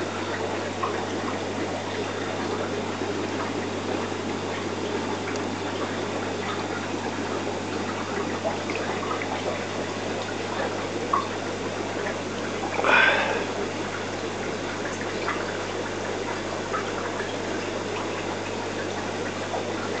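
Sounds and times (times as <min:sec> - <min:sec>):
aquarium water trickling: 0:00.0 - 0:20.0
low steady hum: 0:00.0 - 0:20.0.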